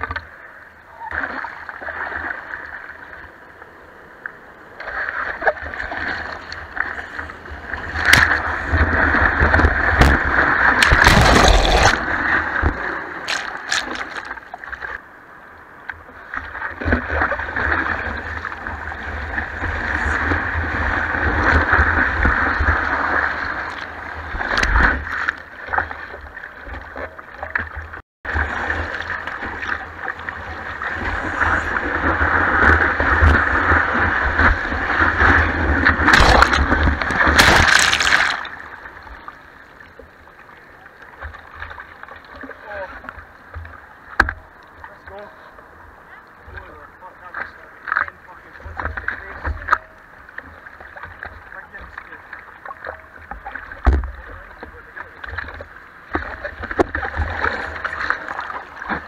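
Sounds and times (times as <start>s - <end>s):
surf rushing and splashing: 4.6s - 59.0s.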